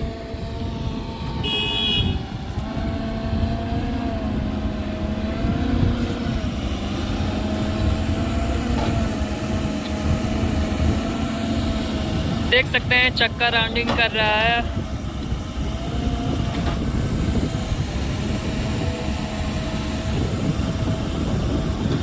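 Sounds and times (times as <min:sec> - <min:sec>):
heavy diesel engine rumbling: 0:00.0 - 0:22.0.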